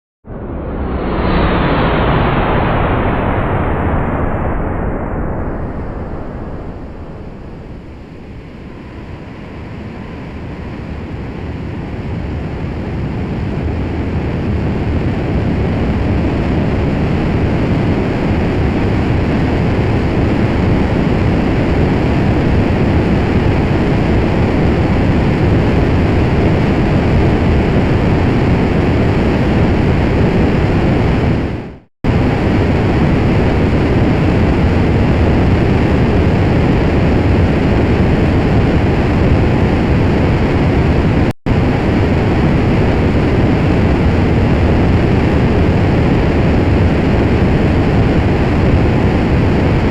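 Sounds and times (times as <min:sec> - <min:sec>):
rocket engine deep rumble: 0:00.2 - 0:49.9.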